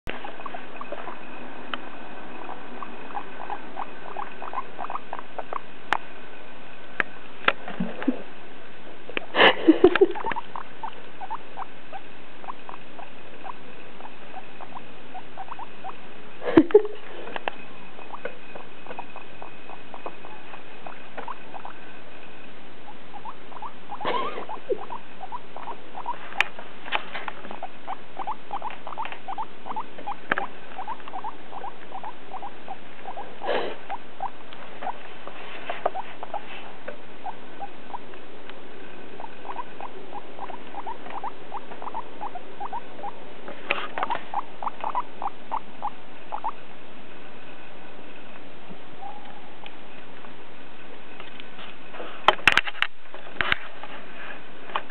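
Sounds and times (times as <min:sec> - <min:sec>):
guinea pig squeaking: 0:00.1 - 0:07.7, 0:09.9 - 0:46.7, 0:49.0 - 0:50.4.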